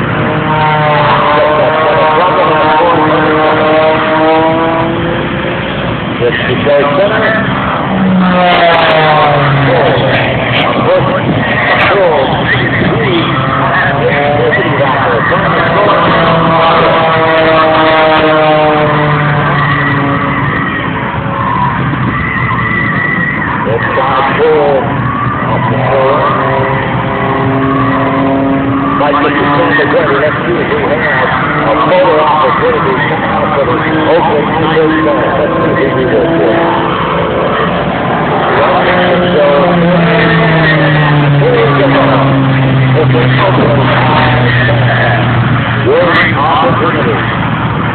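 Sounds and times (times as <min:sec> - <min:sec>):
propeller aircraft engine droning: 0:00.0 - 0:47.9
steady rushing roar: 0:00.0 - 0:47.9.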